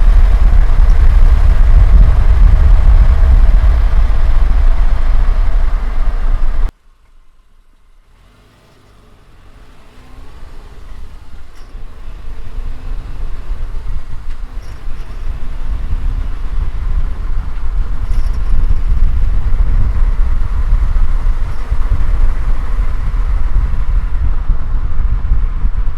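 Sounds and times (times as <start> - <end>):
car engine and road rumble: 0.0 - 25.9.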